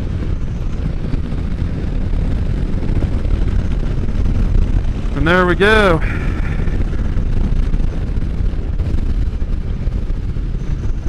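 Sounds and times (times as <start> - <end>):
vehicle engine and road noise: 0.0 - 11.0
wind rushing over microphone: 0.0 - 11.0.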